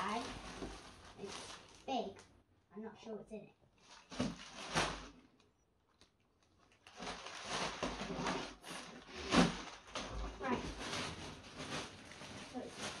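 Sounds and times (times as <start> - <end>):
plastic bag rustling: 0.0 - 2.2, 3.8 - 13.0.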